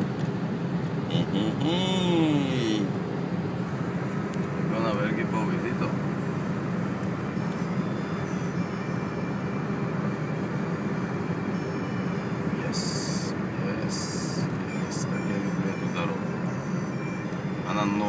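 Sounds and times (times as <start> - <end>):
car engine and tyre drone: 0.0 - 18.0.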